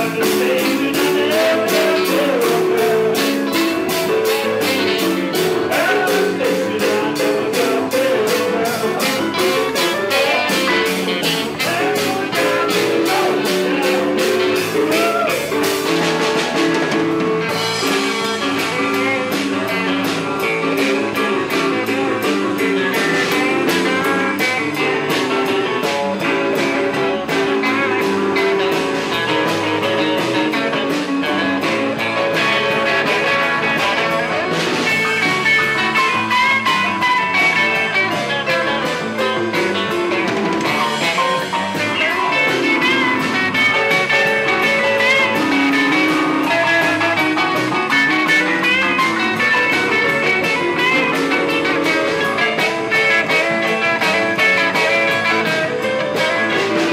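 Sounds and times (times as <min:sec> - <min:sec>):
drum kit: 0:00.0 - 0:56.9
electric guitar: 0:00.0 - 0:56.9.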